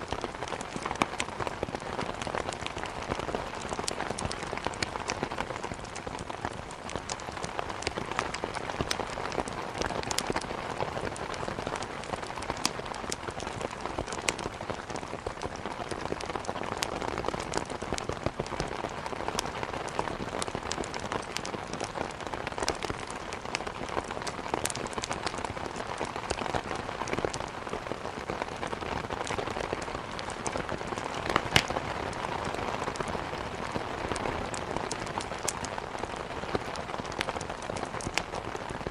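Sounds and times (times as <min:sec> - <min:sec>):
log fire crackling: 0:00.0 - 0:38.9
steady rain falling: 0:00.0 - 0:38.9.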